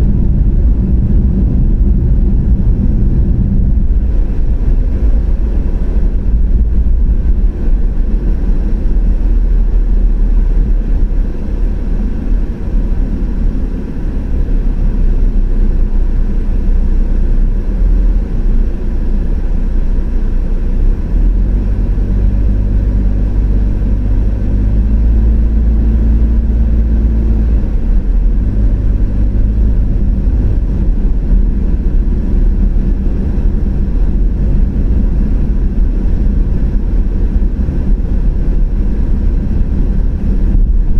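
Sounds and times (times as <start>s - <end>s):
car tyre and engine rumble: 0.0s - 40.9s
low hum: 0.0s - 40.9s.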